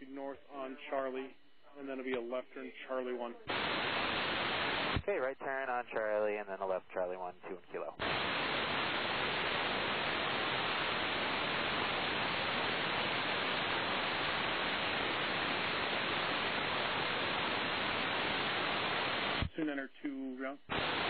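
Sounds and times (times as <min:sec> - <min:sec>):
aircraft radio static hiss: 0:00.0 - 0:19.8, 0:20.6 - 0:21.0.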